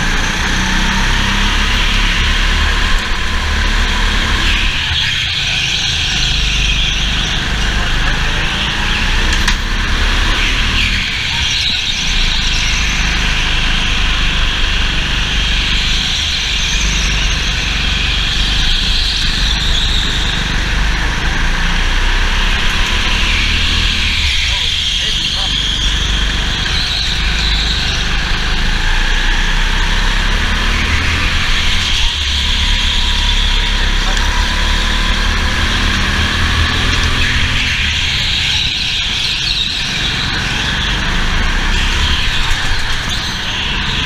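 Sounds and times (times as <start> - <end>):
go-kart engine racing: 0.0 - 44.0.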